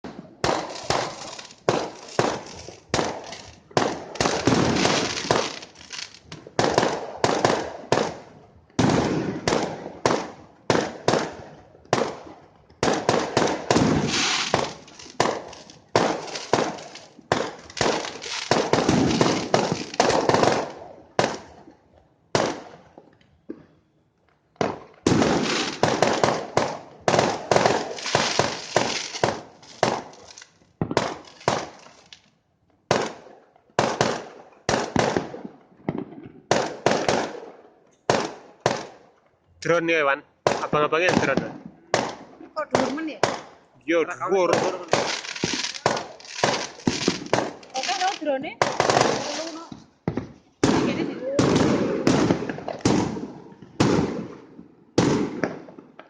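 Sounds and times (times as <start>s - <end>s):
fireworks exploding: 0.0s - 23.8s, 24.5s - 56.0s.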